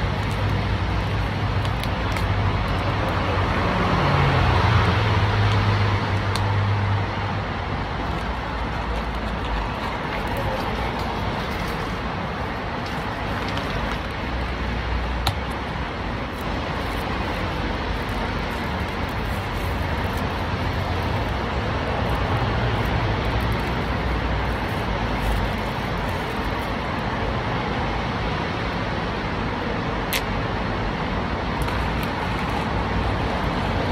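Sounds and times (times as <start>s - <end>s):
road traffic rumble: 0.0s - 33.9s.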